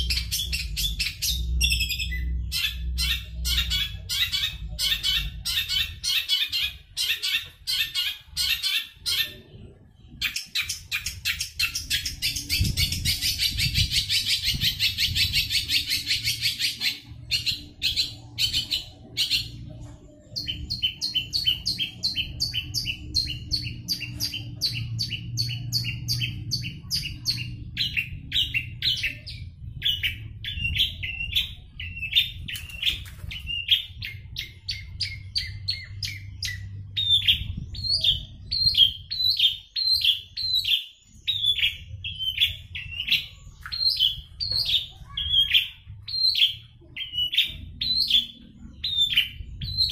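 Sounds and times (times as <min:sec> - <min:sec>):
bird singing fast rolling song: 0:00.0 - 0:49.9.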